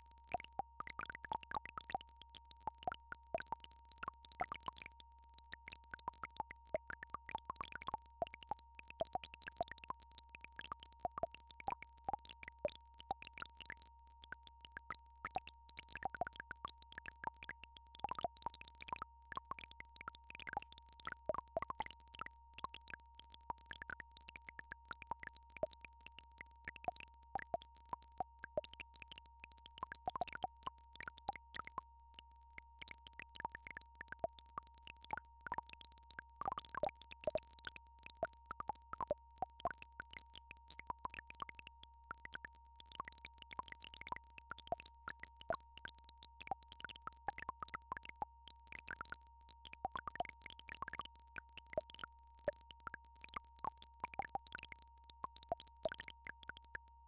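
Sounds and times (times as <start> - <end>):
soft plops and clicks: 0.0 - 57.0.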